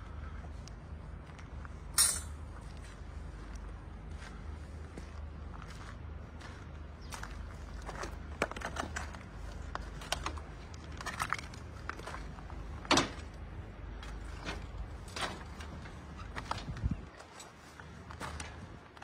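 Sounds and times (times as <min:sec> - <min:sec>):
steady low rumble: 0:00.0 - 0:19.0
footsteps crunching on rubble: 0:02.5 - 0:12.9, 0:13.9 - 0:19.0.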